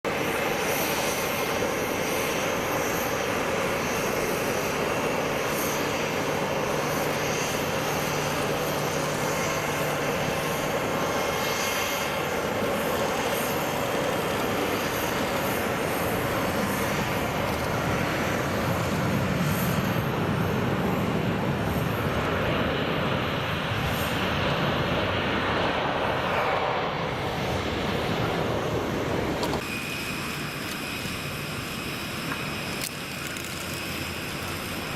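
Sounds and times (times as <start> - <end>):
jet airliner engines running: 0.0 - 34.9.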